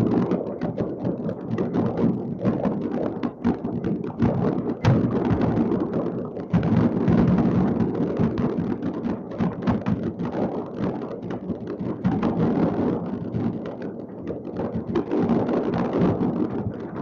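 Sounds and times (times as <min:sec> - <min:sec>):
distant fireworks bangs and crackles: 0:00.0 - 0:17.0.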